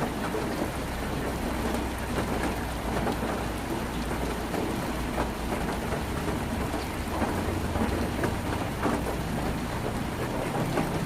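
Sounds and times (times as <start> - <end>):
heavy rain on a tin roof: 0.0 - 11.0.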